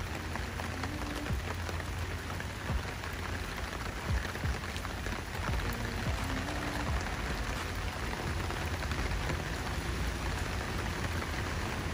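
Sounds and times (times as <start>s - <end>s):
heavy rain on pavement: 0.0s - 11.9s.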